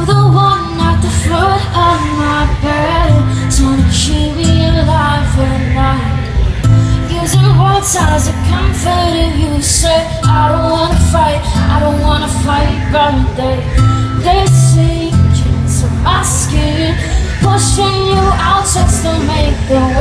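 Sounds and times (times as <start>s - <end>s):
acoustic guitar: 0.0s - 20.0s
woman singing: 0.0s - 20.0s.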